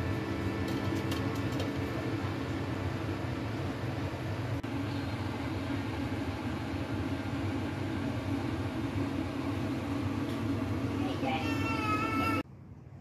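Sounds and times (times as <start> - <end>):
machine humming: 0.0 - 12.4.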